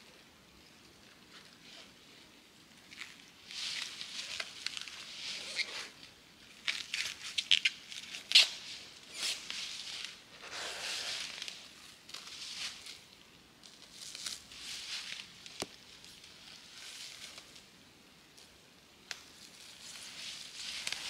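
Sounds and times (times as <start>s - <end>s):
rustling and crinkling: 0.1s - 21.0s.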